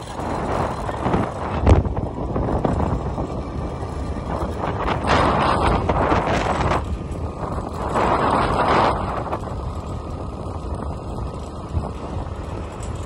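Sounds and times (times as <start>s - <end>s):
scooter ride rattling: 0.0s - 13.0s
wind buffeting microphone: 0.0s - 13.0s.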